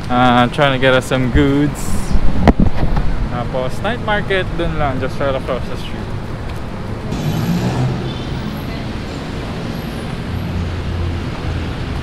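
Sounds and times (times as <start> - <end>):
city road traffic: 0.0 - 12.0.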